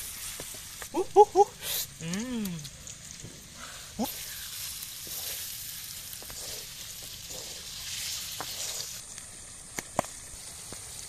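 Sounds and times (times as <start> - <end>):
eggs sizzling in hot oil: 0.0 - 11.0.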